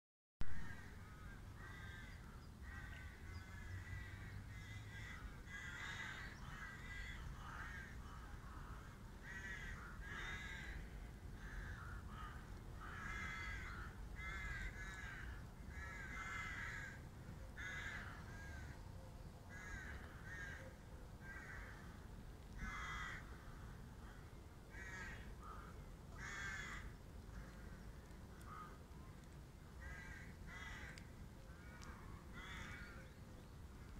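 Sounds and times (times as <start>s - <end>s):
crows cawing: 0.5s - 18.8s, 19.5s - 28.8s, 29.7s - 33.2s.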